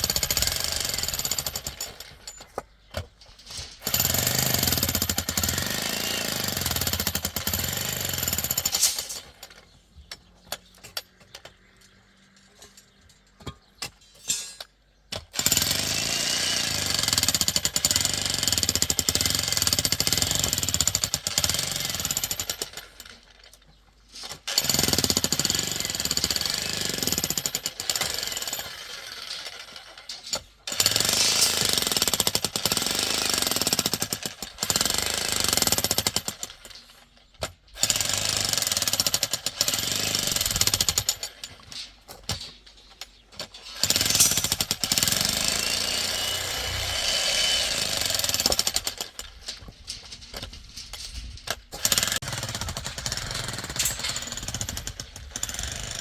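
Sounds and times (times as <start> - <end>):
demolition hammer chiselling masonry: 0.0 - 11.8, 13.0 - 23.6, 24.2 - 56.0.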